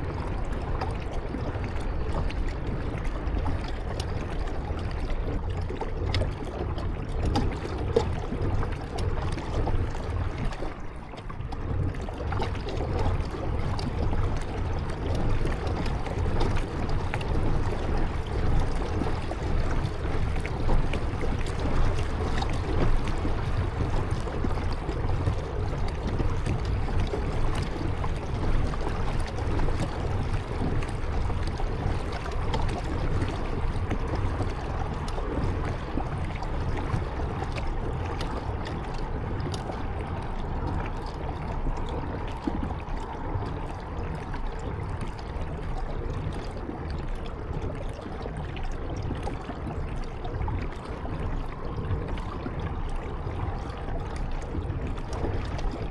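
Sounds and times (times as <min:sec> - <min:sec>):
faint water drips: 0:00.0 - 0:55.9
water splashing and trickling: 0:00.0 - 0:55.9.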